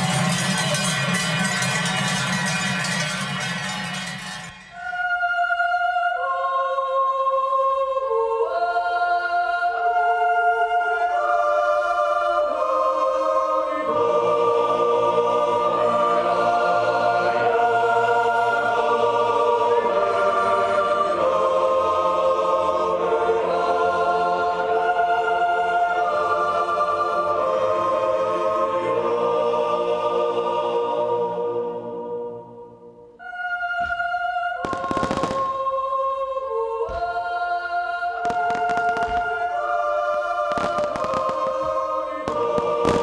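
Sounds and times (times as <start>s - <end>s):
choir holding sustained chords: 0.0s - 43.0s.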